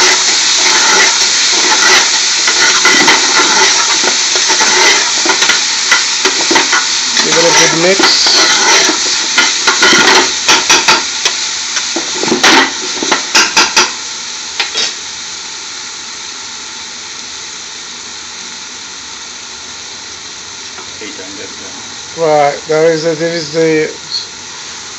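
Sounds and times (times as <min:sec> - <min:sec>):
onions sizzling in hot oil: 0:00.0 - 0:24.9.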